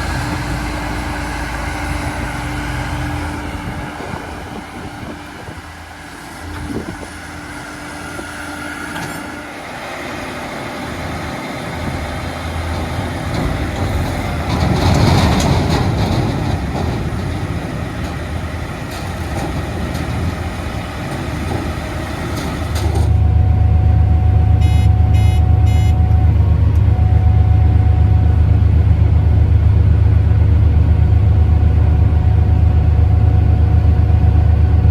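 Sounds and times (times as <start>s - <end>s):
diesel harvest machinery running: 0.0s - 34.9s.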